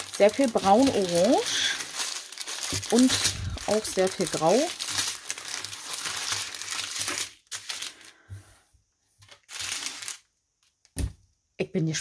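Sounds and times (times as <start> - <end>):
plastic bags crinkling: 0.0 - 8.2, 9.2 - 10.8.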